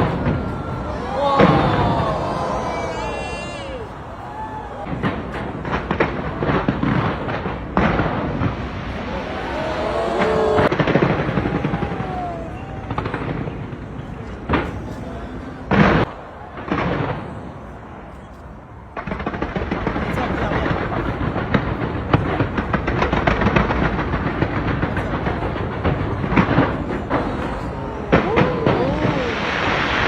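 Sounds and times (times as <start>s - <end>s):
fireworks bangs and booms: 0.0s - 30.0s
fireworks crackling: 0.0s - 30.0s.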